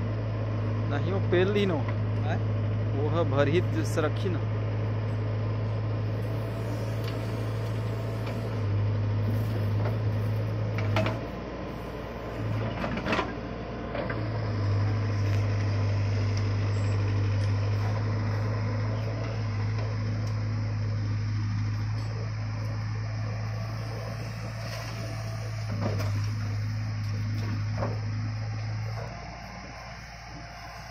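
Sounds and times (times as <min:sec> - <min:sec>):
diesel engine running under load: 0:00.0 - 0:30.9.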